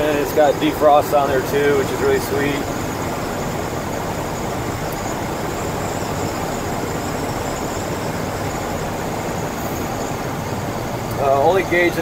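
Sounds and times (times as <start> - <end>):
road and wind noise: 0.0 - 12.0
truck engine running: 0.0 - 12.0.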